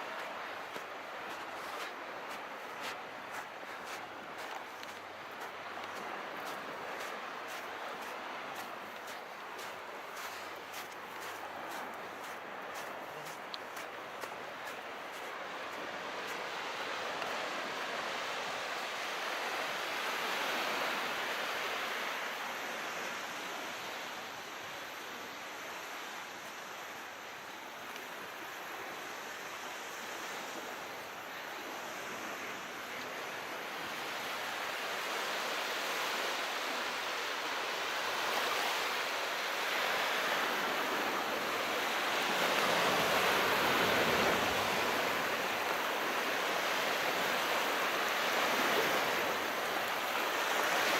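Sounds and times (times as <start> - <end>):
calm sea waves washing on shore: 0.0 - 50.9.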